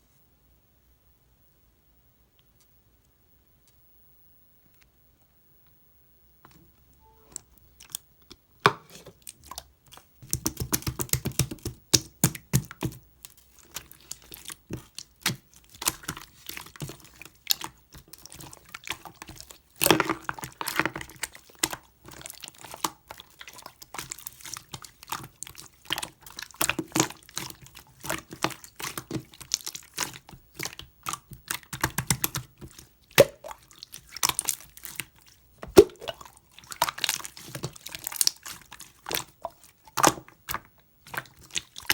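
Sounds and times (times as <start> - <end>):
slime squishing: 7.7 - 41.9.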